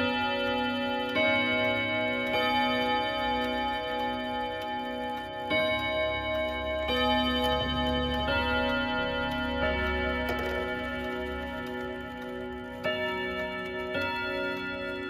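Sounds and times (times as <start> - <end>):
clock chime on gong rods: 0.0 - 15.0.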